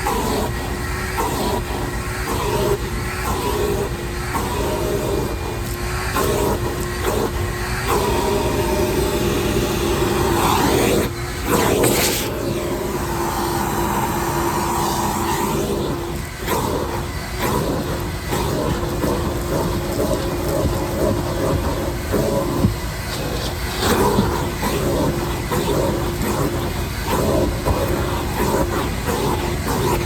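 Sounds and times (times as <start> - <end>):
shop vac motor whine: 0.0 - 30.0.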